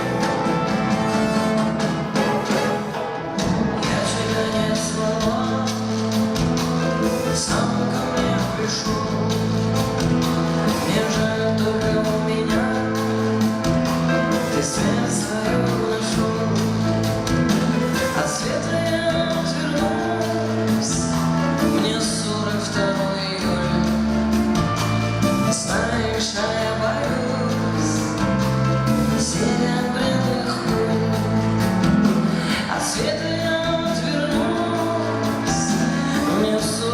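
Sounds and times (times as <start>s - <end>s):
live band music: 0.0s - 36.9s.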